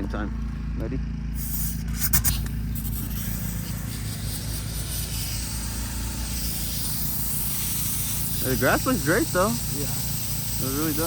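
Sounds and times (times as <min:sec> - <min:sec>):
generator engine humming: 0:00.0 - 0:11.0
compressed air hissing: 0:01.3 - 0:11.0.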